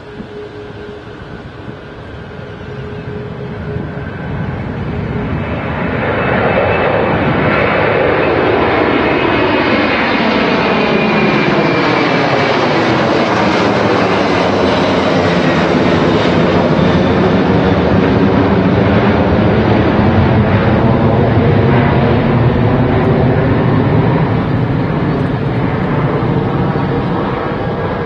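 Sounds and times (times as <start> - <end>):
jet engines roaring at take-off: 0.0 - 28.0.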